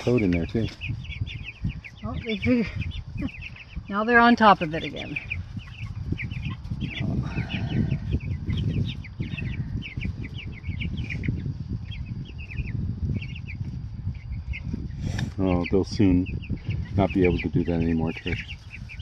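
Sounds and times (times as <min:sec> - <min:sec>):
chicks peeping: 0:00.0 - 0:19.0
low rumble: 0:00.0 - 0:19.0.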